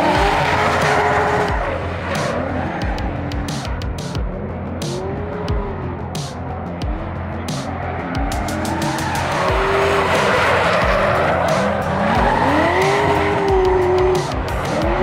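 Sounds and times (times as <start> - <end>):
background music: 0.0 - 15.0
car engines revving: 0.0 - 15.0.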